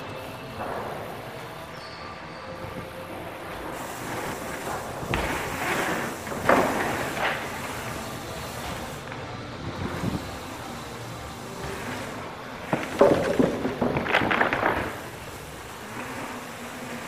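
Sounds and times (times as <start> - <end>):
bike knocking and rattling: 0.0 - 1.8, 2.6 - 17.0
bike tyres rolling rush: 0.0 - 17.0.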